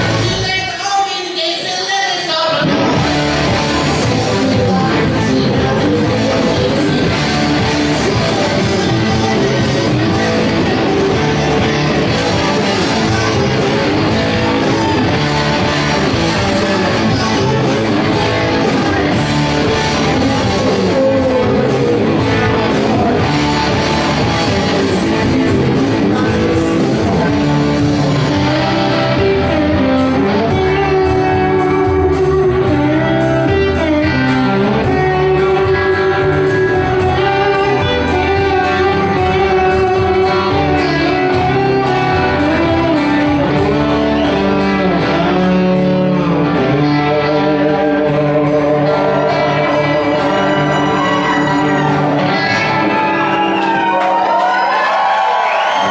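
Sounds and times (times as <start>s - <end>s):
electric guitar: 0.0s - 55.9s
rock band playing live: 0.0s - 55.9s.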